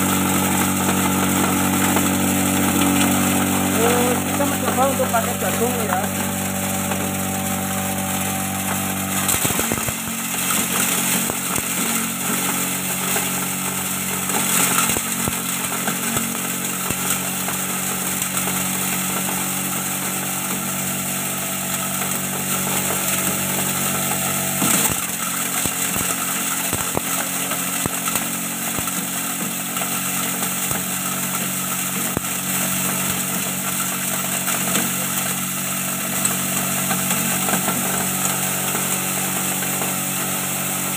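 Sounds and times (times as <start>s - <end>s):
electric motor humming: 0.0s - 40.9s
grinder grinding corn: 0.0s - 40.9s
kernels ticking and rattling: 0.0s - 40.9s.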